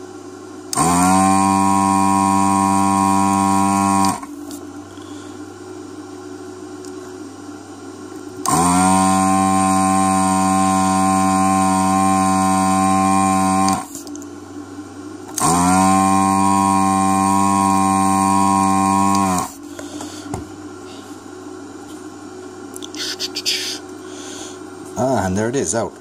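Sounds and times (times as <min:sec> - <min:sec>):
vacuum pump buzzing hum: 0:00.0 - 0:26.0.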